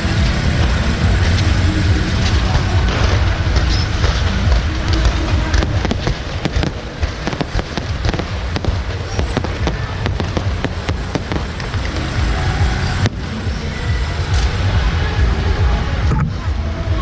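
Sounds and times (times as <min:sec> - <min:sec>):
fireworks banging: 0:00.0 - 0:16.4
low rumble: 0:00.0 - 0:17.0.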